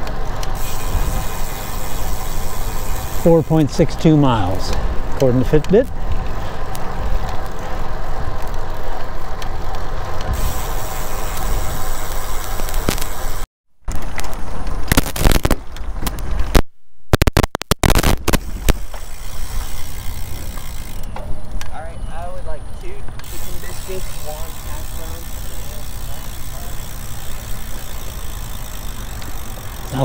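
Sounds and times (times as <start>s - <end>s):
bicycle tyre noise on pavement: 0.0s - 30.0s.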